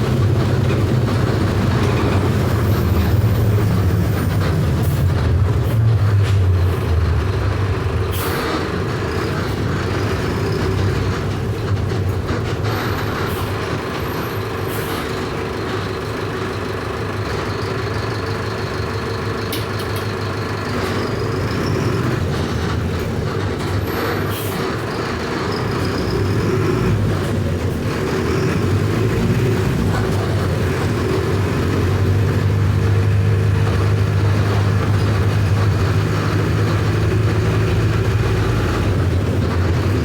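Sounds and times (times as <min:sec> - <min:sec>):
bus diesel engine drone: 0:00.0 - 0:40.0.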